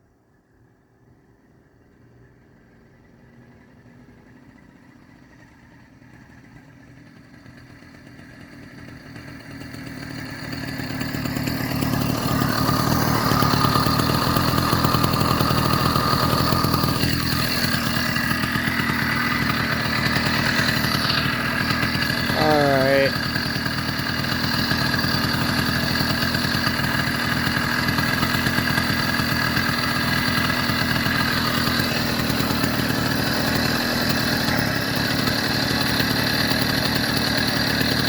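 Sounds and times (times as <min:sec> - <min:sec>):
two-stroke bicycle engine running: 0:01.2 - 0:38.0.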